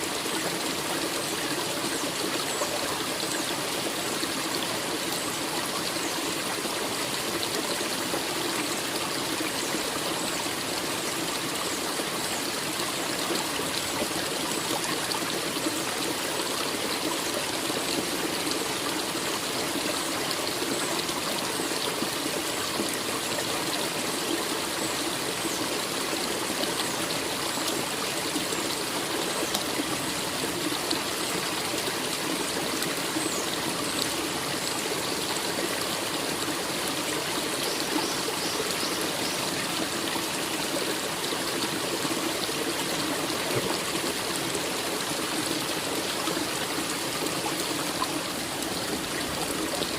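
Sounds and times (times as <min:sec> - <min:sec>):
stream flowing: 0:00.0 - 0:49.9.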